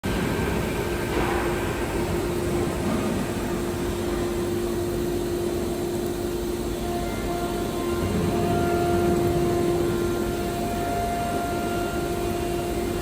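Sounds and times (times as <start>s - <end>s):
machine whine: 0.0s - 13.0s
machine and air hiss: 0.1s - 13.0s.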